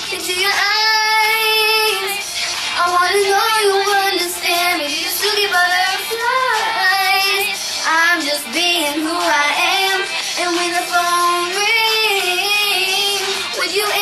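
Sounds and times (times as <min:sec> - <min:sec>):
girl singing: 0:00.0 - 0:14.0
pop backing track: 0:00.0 - 0:14.0.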